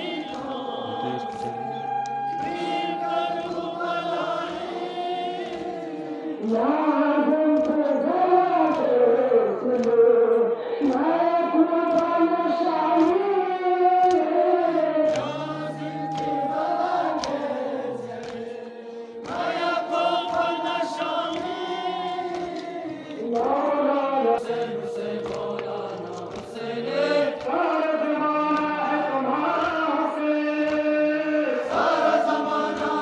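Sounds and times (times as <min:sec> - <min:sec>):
men chanting over loudspeakers: 0:00.0 - 0:33.0.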